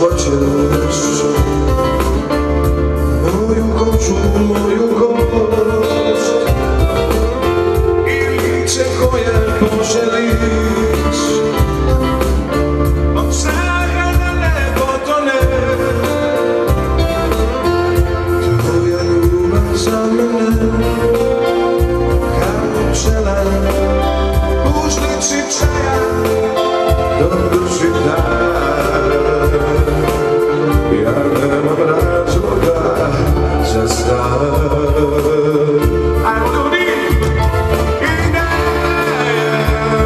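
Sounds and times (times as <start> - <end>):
band with keyboard and guitar: 0.0 - 40.0
man singing: 0.0 - 40.0.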